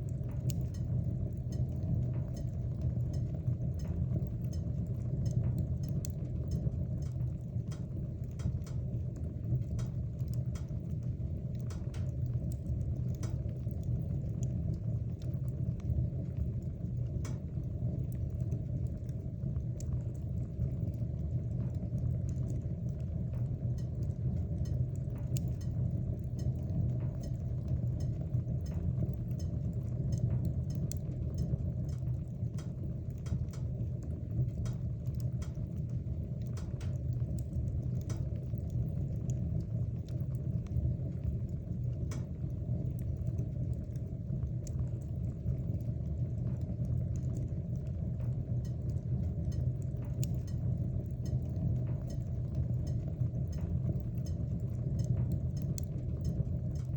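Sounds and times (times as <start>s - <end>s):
crackles and pops of burning wood: 0.0s - 56.9s
low rumble of flame: 0.0s - 56.9s.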